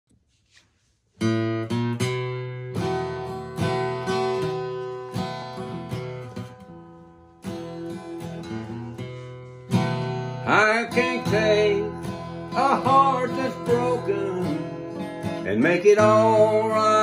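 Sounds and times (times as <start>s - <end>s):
acoustic guitar strumming: 1.2s - 17.0s.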